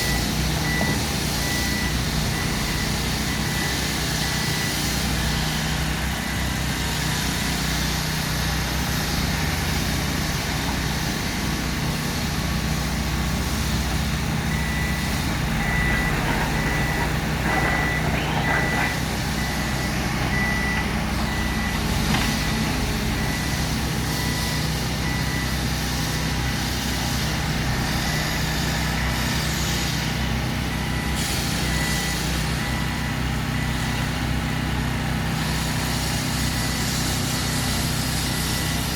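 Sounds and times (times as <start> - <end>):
reversing alarm beeping: 0.0 - 7.6, 13.8 - 34.6, 35.5 - 38.9
diesel engine running: 0.0 - 38.9.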